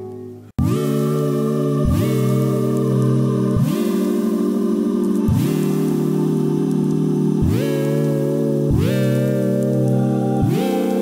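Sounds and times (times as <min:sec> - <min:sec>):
music of sustained chords: 0:00.0 - 0:11.0.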